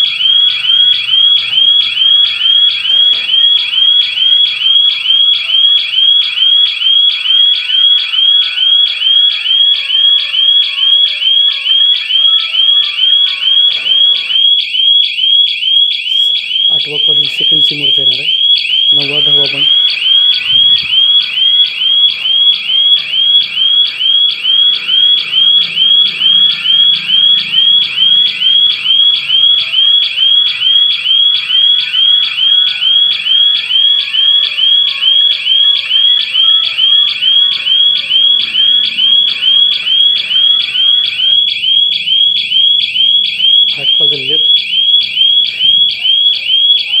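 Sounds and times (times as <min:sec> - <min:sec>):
burglar alarm siren chirping: 0:00.0 - 0:47.0.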